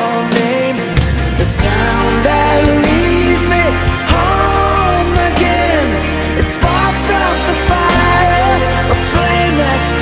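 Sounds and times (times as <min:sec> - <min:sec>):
lead melody with bending notes: 0:00.1 - 0:10.0
steady bass: 0:00.7 - 0:10.0.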